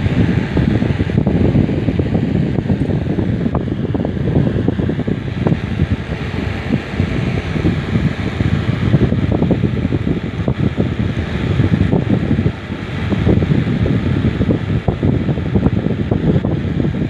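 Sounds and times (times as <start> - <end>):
fan rushing: 0.0 - 17.0
wind buffeting microphone: 0.0 - 17.0.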